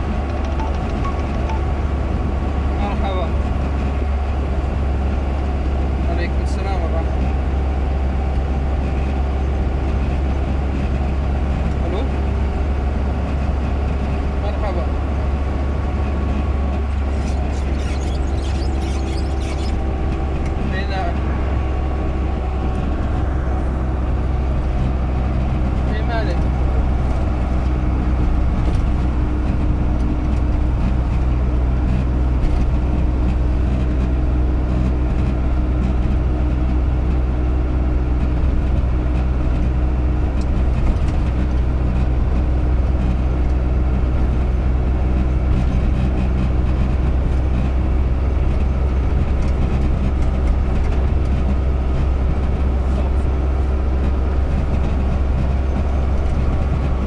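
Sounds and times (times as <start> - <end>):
car interior road drone: 0.0 - 57.0.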